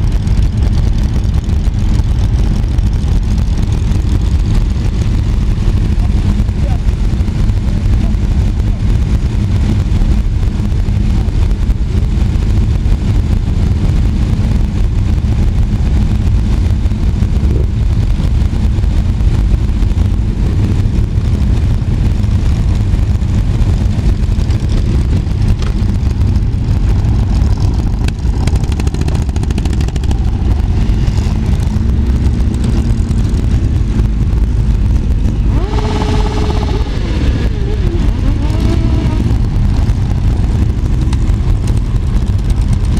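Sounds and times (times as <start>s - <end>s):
motorcycle engines rumbling: 0.0s - 42.9s
motorcycle revving: 0.0s - 42.9s.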